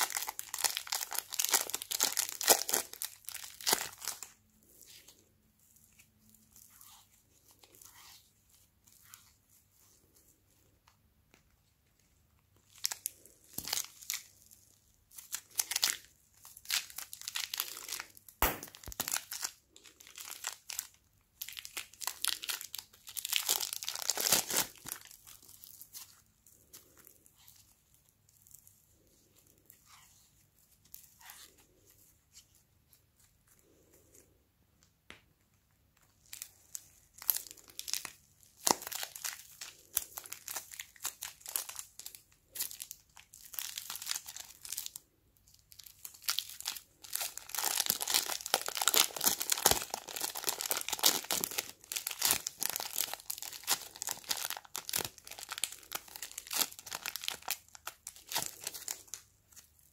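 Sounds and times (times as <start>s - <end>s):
plastic piping bag crinkling: 0.0s - 34.4s, 35.5s - 59.9s
clay squishing: 0.0s - 59.9s.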